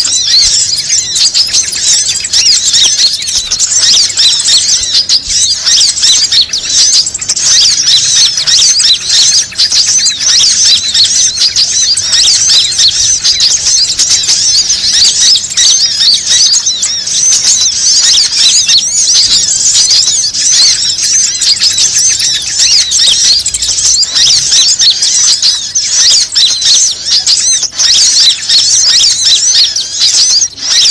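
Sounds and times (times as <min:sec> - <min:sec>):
high-pitched bird chirps: 0:00.0 - 0:30.9.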